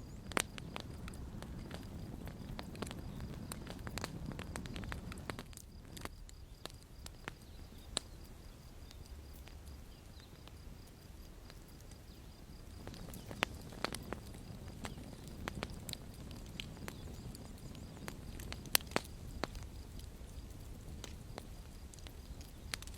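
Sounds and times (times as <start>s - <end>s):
burning wood popping: 0.0s - 22.9s
low rumble of flames: 0.0s - 22.9s.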